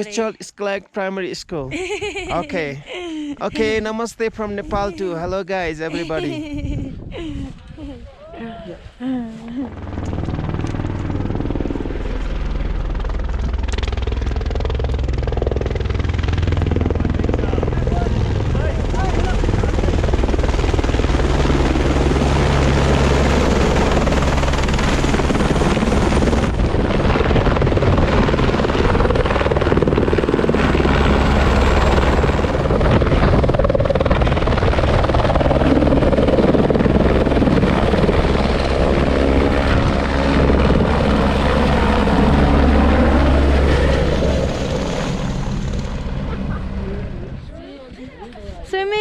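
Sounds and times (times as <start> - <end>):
helicopter rotor and engine drone: 0.0 - 0.4, 1.7 - 7.6, 9.2 - 49.0.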